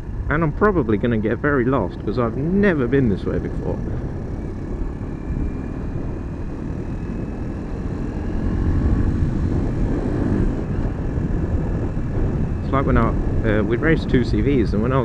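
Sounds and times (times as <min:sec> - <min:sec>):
motorcycle engine running: 0:00.0 - 0:15.0
wind rumble on microphone: 0:00.0 - 0:15.0.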